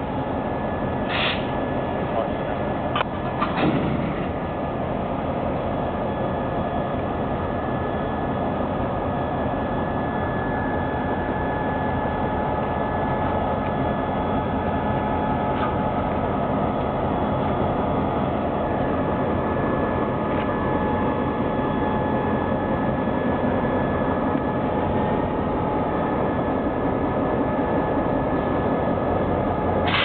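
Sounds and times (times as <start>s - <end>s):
diesel locomotive engine rumble: 0.0s - 30.0s
thin steady whine: 0.0s - 30.0s.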